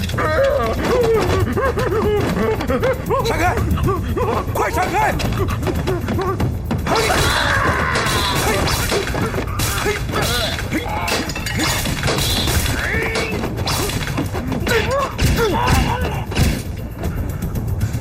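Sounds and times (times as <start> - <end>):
dramatic soundtrack music: 0.0 - 18.0.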